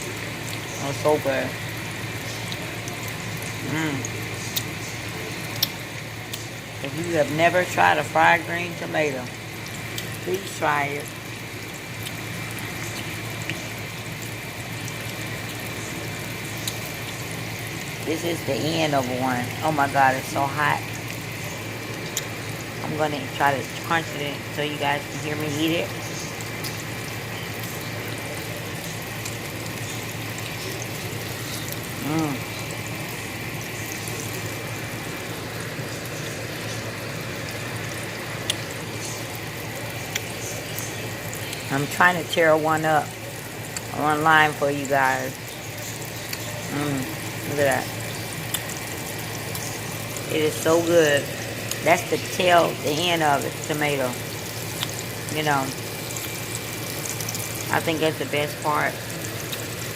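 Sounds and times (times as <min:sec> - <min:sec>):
frying in hot oil sizzle: 0:00.0 - 0:59.9.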